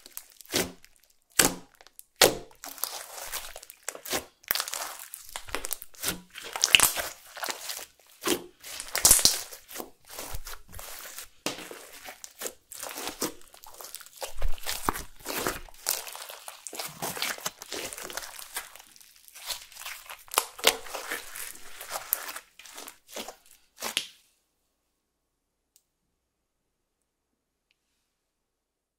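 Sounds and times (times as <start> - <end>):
slime crackling and popping: 0.0 - 24.2.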